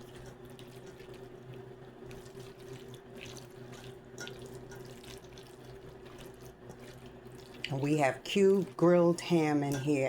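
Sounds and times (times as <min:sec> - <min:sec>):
low electrical hum: 0:00.0 - 0:10.0
spoon stirring macaroni in bowl: 0:00.0 - 0:10.0.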